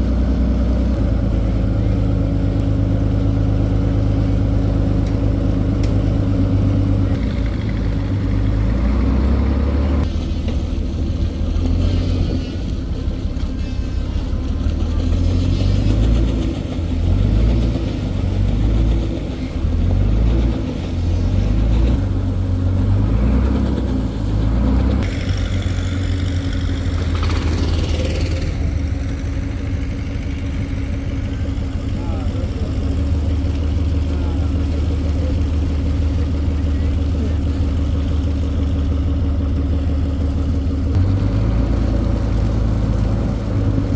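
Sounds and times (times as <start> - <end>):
engine running: 0.0 - 43.9
background voices: 1.4 - 40.1.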